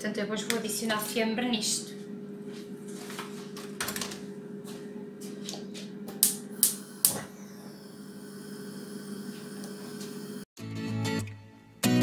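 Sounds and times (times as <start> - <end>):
steady hum: 0.0 - 10.5.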